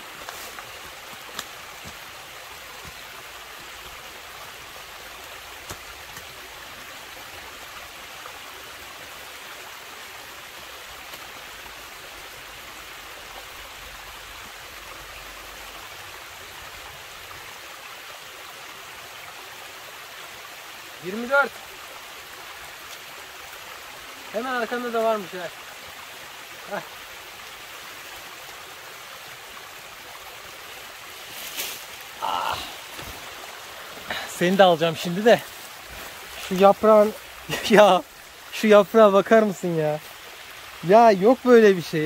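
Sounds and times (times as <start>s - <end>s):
stream running: 0.0s - 42.0s.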